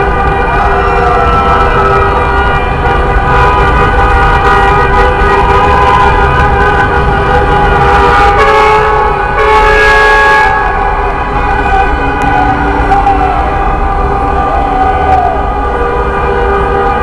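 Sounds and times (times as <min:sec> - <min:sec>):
vehicle horns honking: 0:00.0 - 0:13.0, 0:15.6 - 0:17.0.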